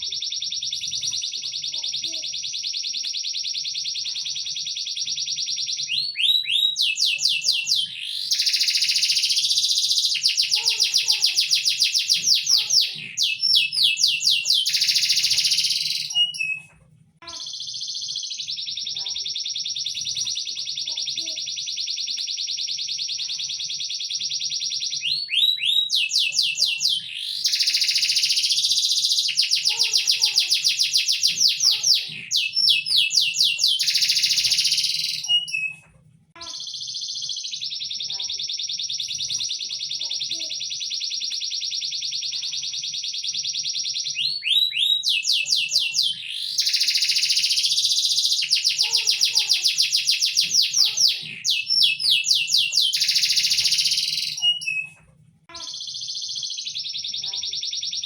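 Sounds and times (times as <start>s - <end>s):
songbird singing: 0.0s - 16.7s, 17.3s - 35.8s, 36.4s - 55.0s.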